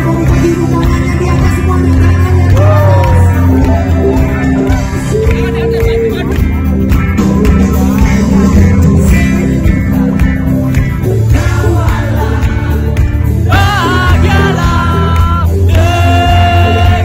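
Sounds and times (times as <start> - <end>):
person singing: 0.0 - 6.6, 7.2 - 17.0
heavy bass beat: 0.0 - 17.0
live band music through pa: 0.0 - 17.0.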